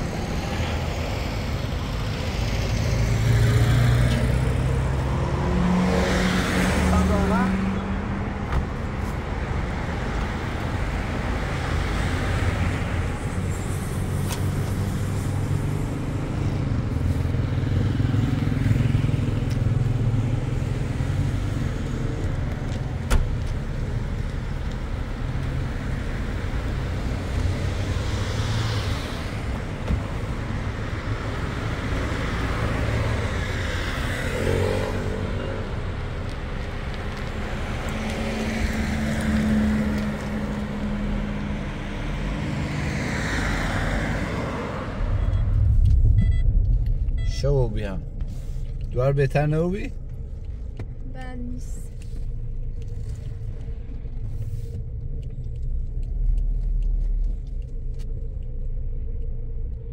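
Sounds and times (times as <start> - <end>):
cars passing: 0.0 - 59.9
low traffic rumble: 0.0 - 59.9.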